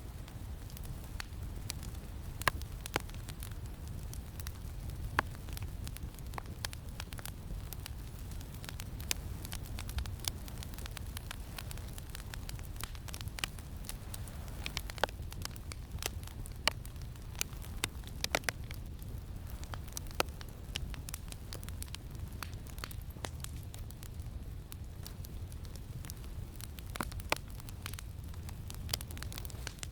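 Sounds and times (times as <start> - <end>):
campfire crackling and popping: 0.0 - 29.9
low rumble of wind: 0.0 - 29.9.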